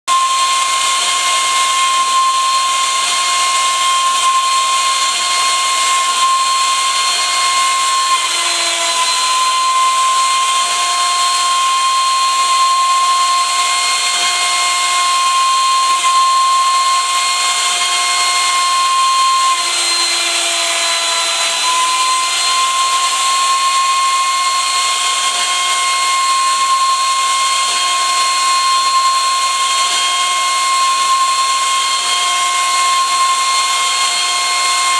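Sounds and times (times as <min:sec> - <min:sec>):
router spindle motor whining: 0:00.1 - 0:34.9.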